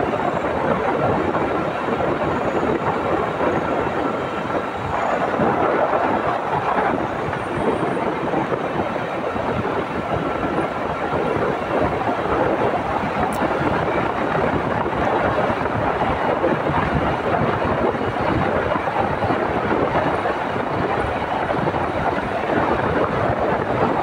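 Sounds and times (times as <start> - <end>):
wind and road noise: 0.0 - 24.0.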